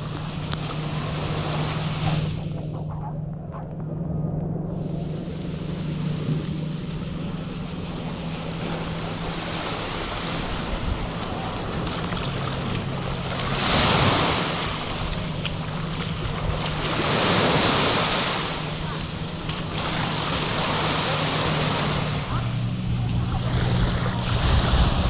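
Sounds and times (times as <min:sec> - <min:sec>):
small waves lapping on sand: 0:00.0 - 0:02.6, 0:04.8 - 0:25.0.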